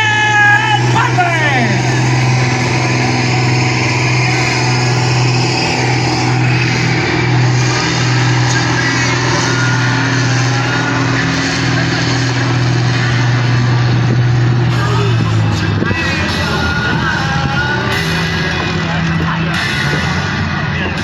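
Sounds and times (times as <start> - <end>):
vehicle engine running hard: 0.0 - 21.0.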